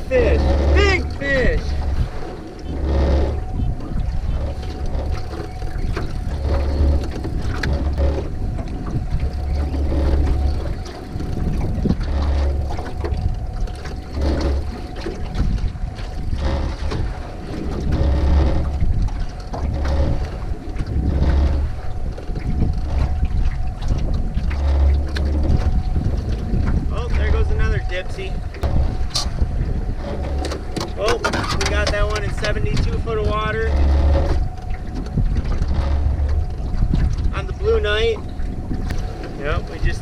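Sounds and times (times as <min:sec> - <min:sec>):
boat motor running: 0:00.0 - 0:40.0
wind buffeting microphone: 0:00.0 - 0:40.0
knocks and rattles: 0:00.1 - 0:40.0.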